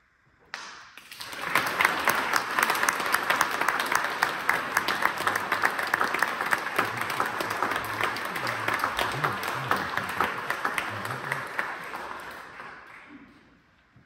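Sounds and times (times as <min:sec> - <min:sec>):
audience applauding: 0:00.6 - 0:13.4.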